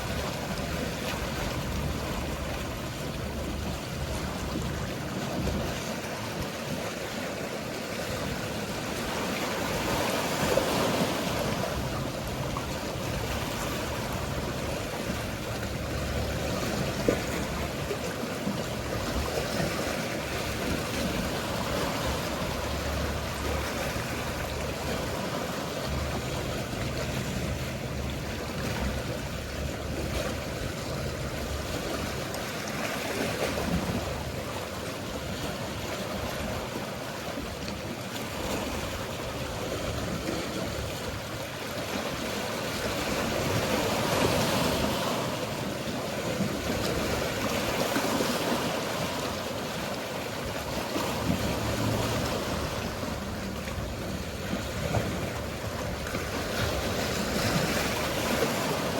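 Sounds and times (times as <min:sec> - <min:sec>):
distant boat engine hum: 0:00.0 - 0:58.9
sea waves washing: 0:00.0 - 0:58.9.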